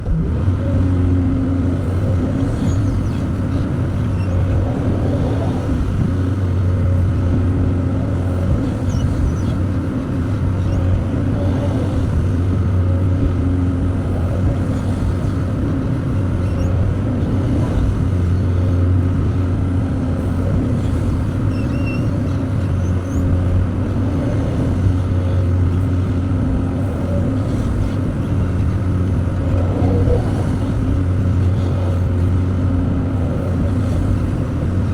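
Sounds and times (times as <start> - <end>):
excavator diesel engine droning: 0.0 - 34.9.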